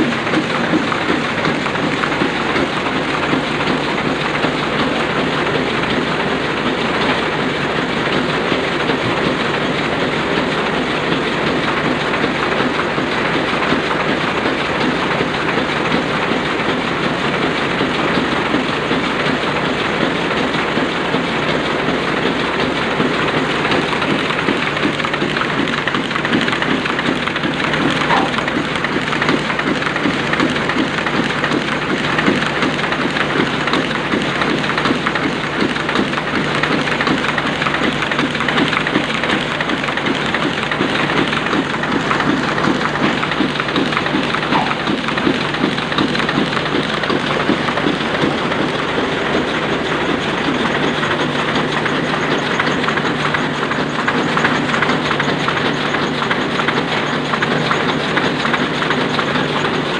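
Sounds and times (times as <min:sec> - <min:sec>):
printing press clattering: 0:00.0 - 0:59.9.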